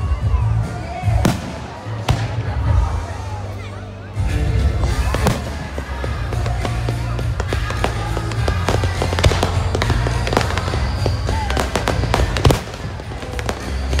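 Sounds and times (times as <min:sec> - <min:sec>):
fireworks bangs and crackles: 0:00.0 - 0:03.4, 0:04.5 - 0:14.0.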